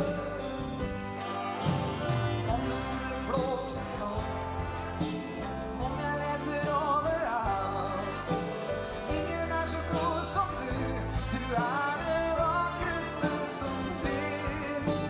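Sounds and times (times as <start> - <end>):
man singing: 0.0 - 1.2, 2.4 - 15.0
big band playing: 0.0 - 15.0.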